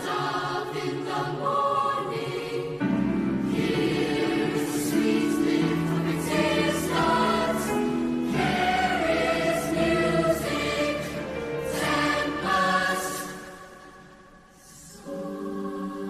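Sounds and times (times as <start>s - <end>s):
choir singing in parts: 0.0s - 16.0s.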